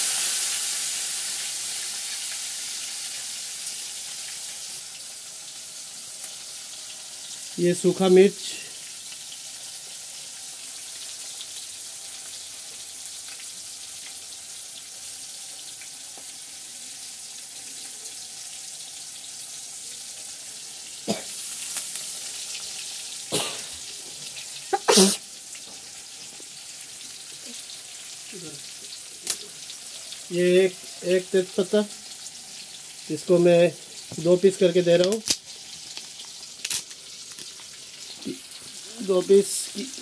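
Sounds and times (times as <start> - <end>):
hot oil sizzling: 0.0 - 40.0.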